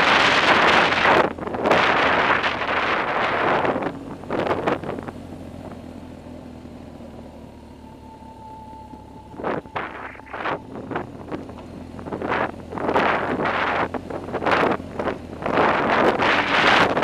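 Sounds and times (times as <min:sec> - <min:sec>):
faint steady whine: 0:00.0 - 0:16.8
motorcycle engine running low: 0:00.0 - 0:17.0.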